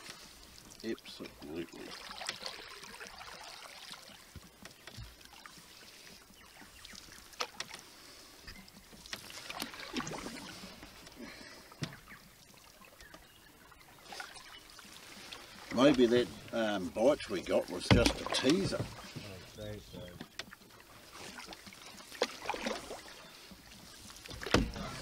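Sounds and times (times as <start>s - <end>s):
paddle strokes in water: 0.0s - 25.0s.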